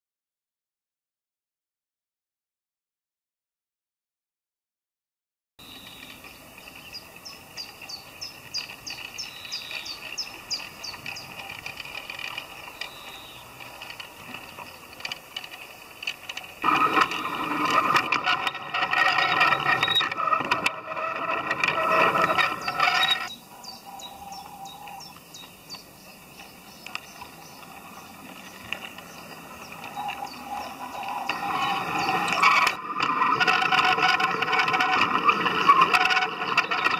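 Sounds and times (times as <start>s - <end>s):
wheels clicking on rail: 5.6s - 36.9s
model train motor whirring: 5.7s - 36.9s.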